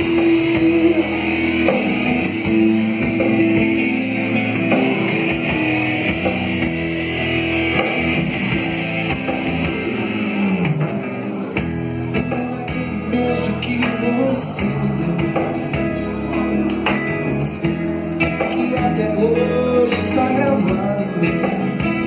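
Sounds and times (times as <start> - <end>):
band playing instrumental: 0.0 - 22.0
drum kit beat: 0.0 - 22.0
guitar: 0.0 - 22.0.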